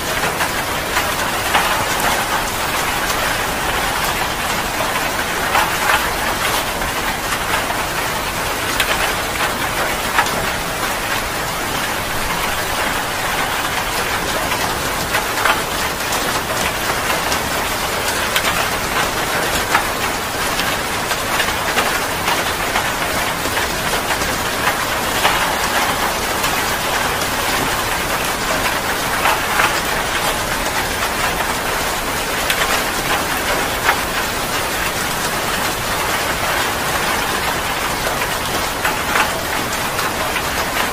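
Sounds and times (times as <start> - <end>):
heavy rain falling: 0.0 - 40.9
raindrops ticking on a surface: 0.0 - 40.9.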